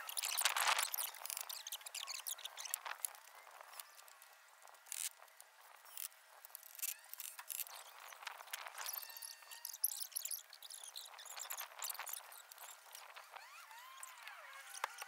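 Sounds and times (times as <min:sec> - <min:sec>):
faint chirps: 0:00.0 - 0:04.2, 0:06.8 - 0:15.0.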